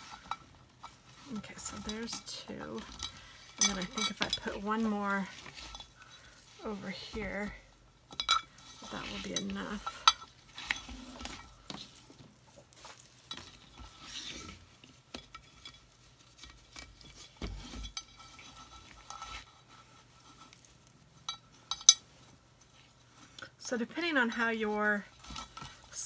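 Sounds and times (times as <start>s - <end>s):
rope handling clicks and rustles: 0.0s - 24.2s.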